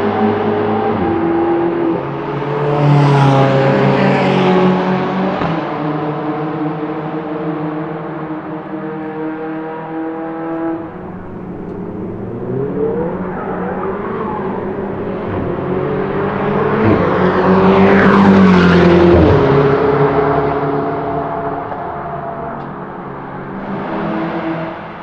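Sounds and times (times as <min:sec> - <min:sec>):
sports car accelerating past: 0:00.1 - 0:25.0.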